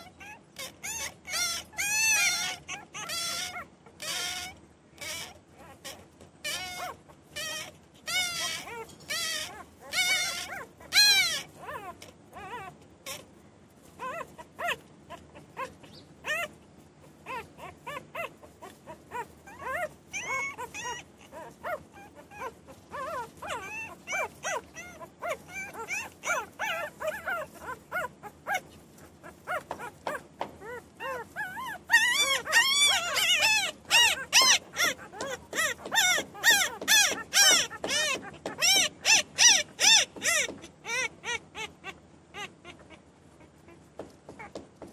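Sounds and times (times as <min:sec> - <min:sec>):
puppies crying and whining: 0:00.0 - 0:44.9.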